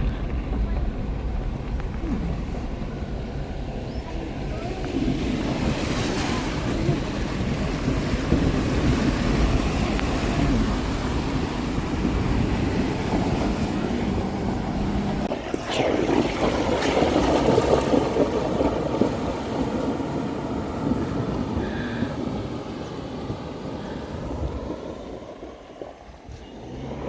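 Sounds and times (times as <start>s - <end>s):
vehicle engine and road noise: 0.0s - 15.9s, 16.8s - 27.0s
water splashing around wheels: 0.0s - 27.0s.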